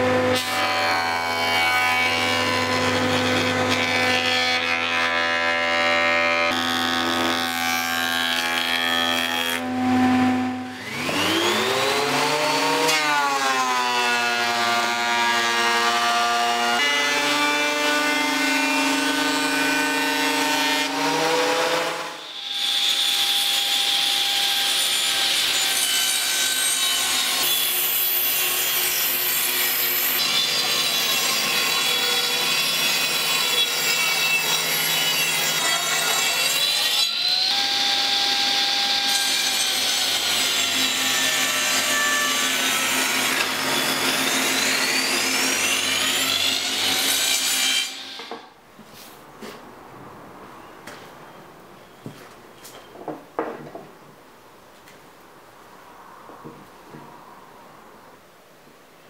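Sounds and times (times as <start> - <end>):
table saw cutting wood: 0.0 - 48.5.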